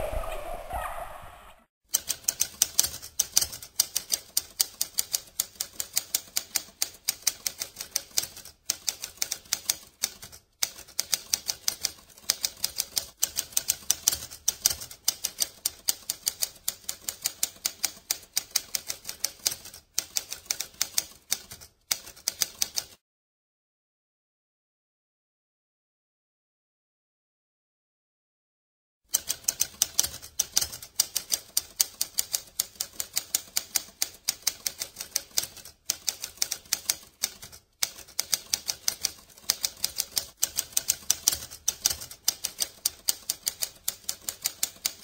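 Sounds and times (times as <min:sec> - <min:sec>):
typewriter keys clacking: 0:01.9 - 0:23.0, 0:29.1 - 0:45.0.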